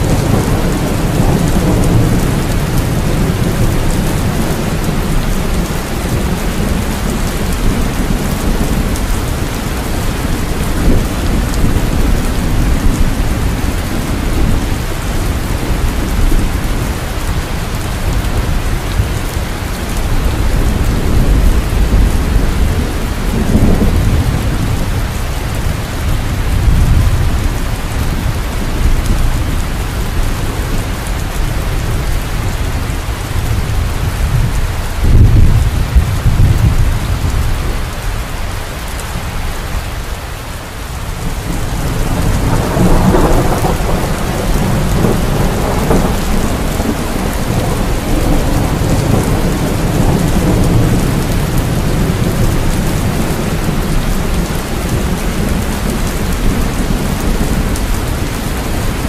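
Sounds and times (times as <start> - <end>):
rolling thunder: 0.0 - 38.1, 41.1 - 59.0
heavy rainfall: 0.0 - 59.0.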